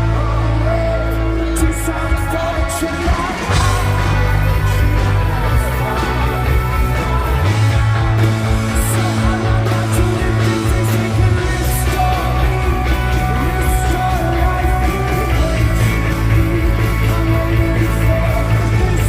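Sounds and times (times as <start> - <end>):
person singing: 0.0 - 19.0
rock band playing: 0.0 - 19.0.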